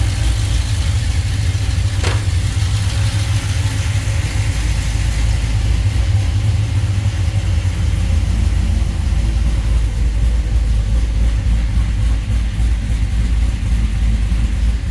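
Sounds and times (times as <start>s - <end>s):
engine idling with deep rumble: 0.0s - 14.9s.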